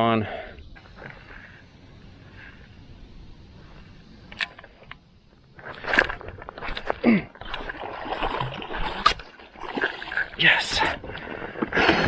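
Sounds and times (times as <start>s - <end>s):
water against hull: 0.2s - 12.0s.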